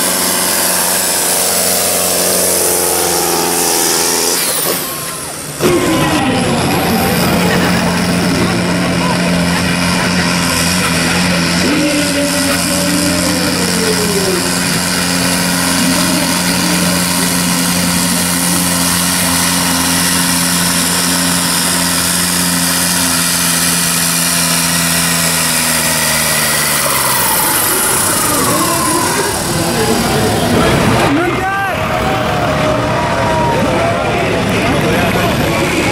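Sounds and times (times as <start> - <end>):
tractor diesel engine at full throttle: 0.0 - 35.9.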